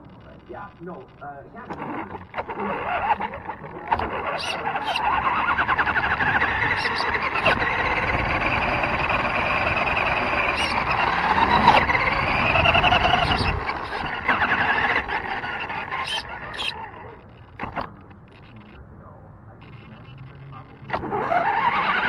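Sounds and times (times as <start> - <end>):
toy car motor whining: 0.0 - 18.8, 19.6 - 22.0.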